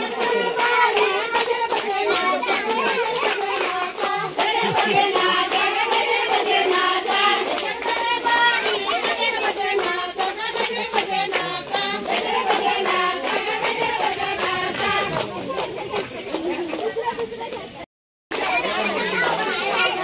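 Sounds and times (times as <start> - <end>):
children singing: 0.0 - 15.8, 18.4 - 20.0
rhythmic hand claps: 0.0 - 20.0.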